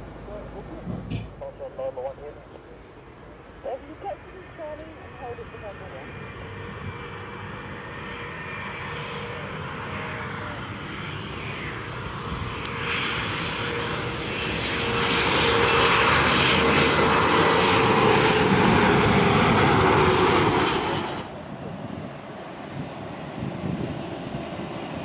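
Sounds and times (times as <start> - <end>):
airliner engines rushing and whining: 0.0 - 25.0.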